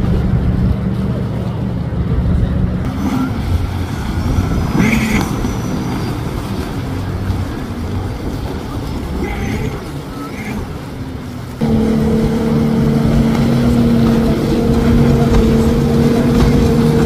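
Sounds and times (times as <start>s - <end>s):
jet ski engine: 0.0s - 17.0s
water noise: 0.0s - 17.0s
wind: 0.0s - 17.0s.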